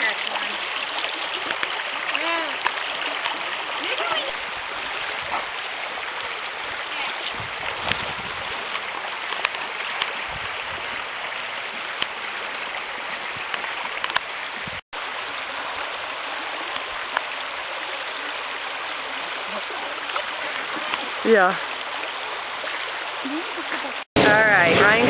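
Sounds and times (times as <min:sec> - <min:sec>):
creek rushing over stones: 0:00.0 - 0:25.0.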